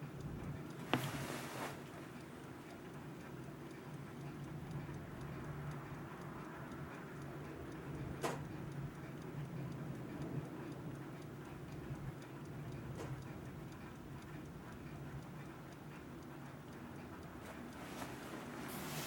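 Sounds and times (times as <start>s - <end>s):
alarm clock ticking: 0.0s - 1.2s, 2.0s - 19.0s.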